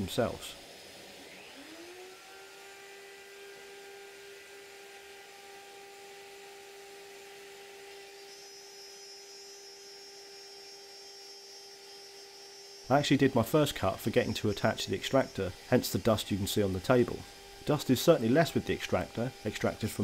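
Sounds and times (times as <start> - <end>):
router high whine: 0.0 - 20.0.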